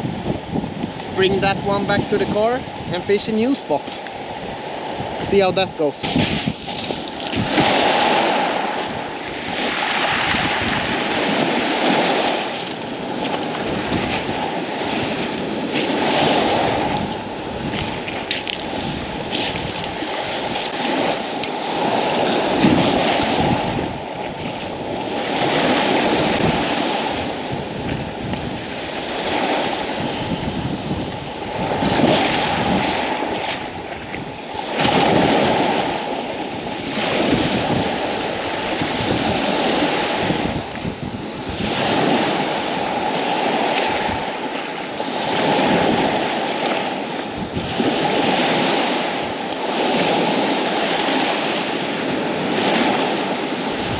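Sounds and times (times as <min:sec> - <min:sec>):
waves washing on pebbles: 0:00.9 - 0:53.9.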